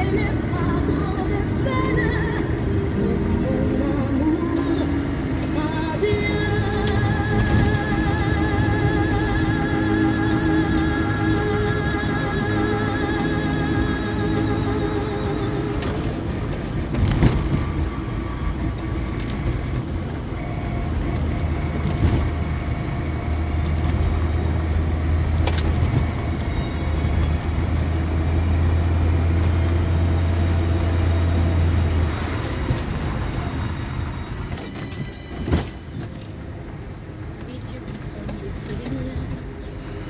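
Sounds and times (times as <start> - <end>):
car engine and tyre drone: 0.0 - 40.0.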